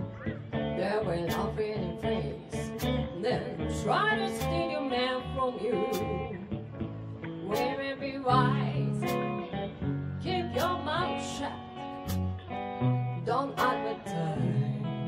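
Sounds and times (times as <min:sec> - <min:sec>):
bass guitar: 0:00.0 - 0:15.0
blues-rock band playing: 0:00.0 - 0:15.0
electric guitar: 0:00.0 - 0:15.0
woman singing into a microphone: 0:00.6 - 0:06.5, 0:07.3 - 0:09.5, 0:10.2 - 0:12.1, 0:13.0 - 0:15.0.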